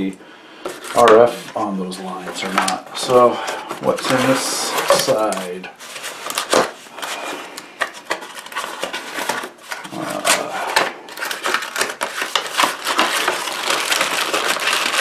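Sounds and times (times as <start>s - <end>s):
cardboard scraping and rustling: 0.7s - 15.0s.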